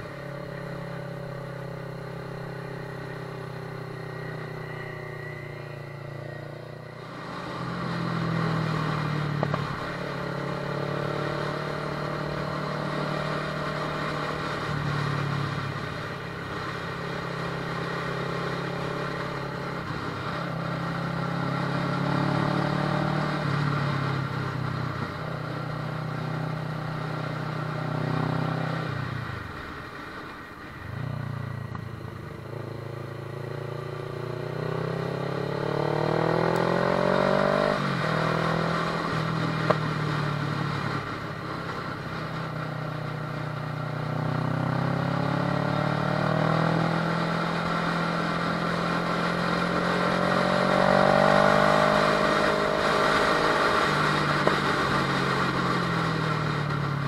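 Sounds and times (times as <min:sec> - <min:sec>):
motorcycle engine revving: 0:00.0 - 0:29.6, 0:30.8 - 0:57.0.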